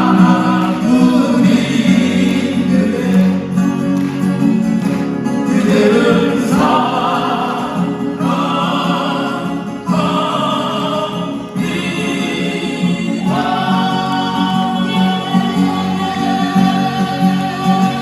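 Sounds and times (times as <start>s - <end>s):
male vocal quartet singing: 0.0s - 4.1s, 4.7s - 18.0s
acoustic guitar: 0.0s - 18.0s.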